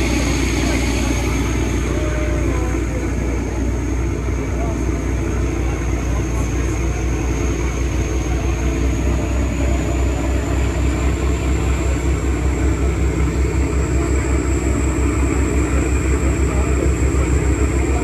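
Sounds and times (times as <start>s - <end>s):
motorboat engine running: 0.0s - 18.0s.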